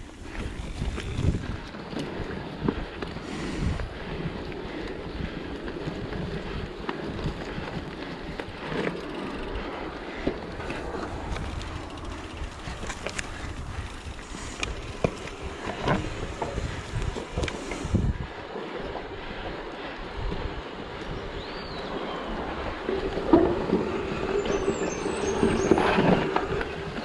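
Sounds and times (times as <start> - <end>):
bike rattling: 0.0 - 27.0
bike tyres on trail: 0.0 - 27.0
wind on microphone: 0.0 - 27.0.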